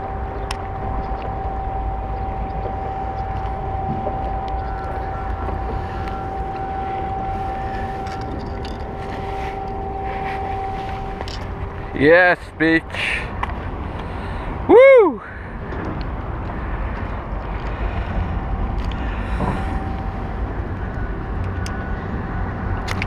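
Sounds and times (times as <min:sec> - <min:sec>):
city traffic rumble: 0:00.0 - 0:23.0
constant even hum: 0:00.0 - 0:23.0.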